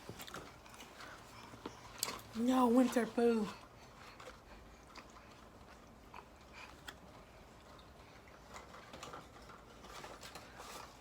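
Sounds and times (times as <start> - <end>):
faint chewing: 0.0 - 2.4, 3.2 - 11.0.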